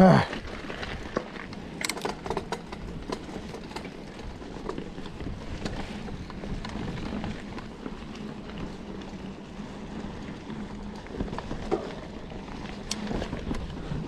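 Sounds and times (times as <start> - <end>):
bike clicks and rattles: 0.0 - 14.0
bike tyres rumbling on dirt: 0.0 - 14.0.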